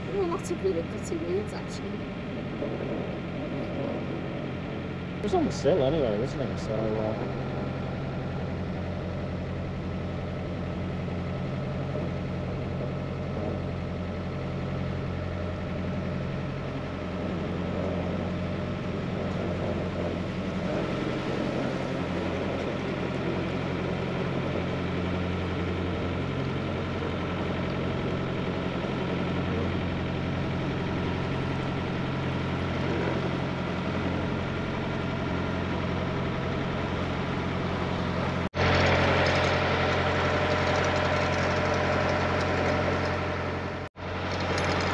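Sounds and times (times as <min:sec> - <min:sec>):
boat diesel engine droning: 0:00.0 - 0:44.9.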